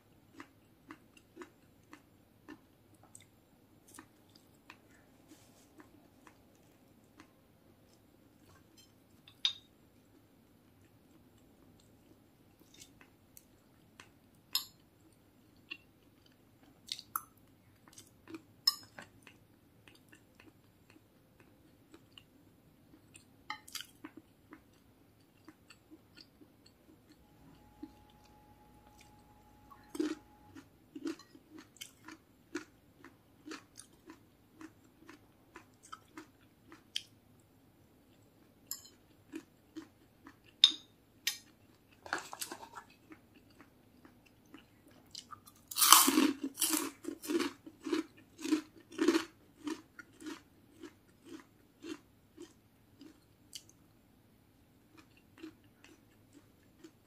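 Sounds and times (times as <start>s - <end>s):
person chewing: 0.3s - 9.4s, 11.8s - 22.3s, 22.9s - 37.2s, 38.1s - 53.8s, 54.9s - 57.0s.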